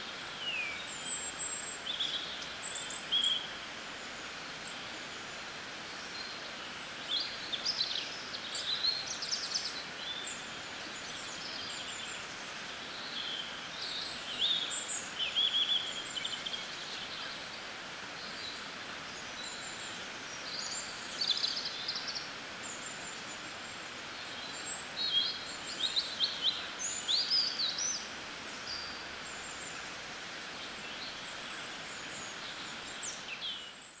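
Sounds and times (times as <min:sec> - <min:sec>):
outdoor background hiss: 0:00.0 - 0:34.0
small birds chirping and trilling: 0:00.0 - 0:34.0.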